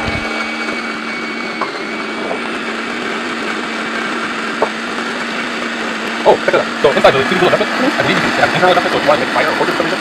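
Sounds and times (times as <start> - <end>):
coffee grinder grinding beans: 0.0 - 10.0.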